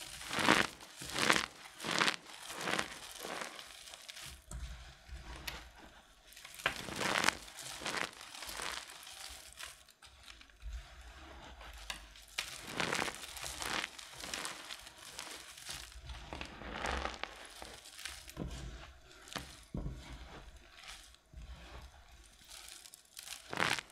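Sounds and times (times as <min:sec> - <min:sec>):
hands crushing dry soap: 0:00.0 - 0:23.9.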